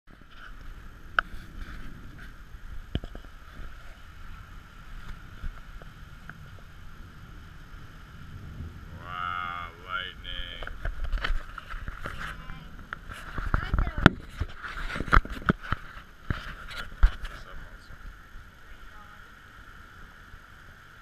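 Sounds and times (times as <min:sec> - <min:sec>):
rain: 0:00.1 - 0:21.0
wind rumble on microphone: 0:00.1 - 0:21.0.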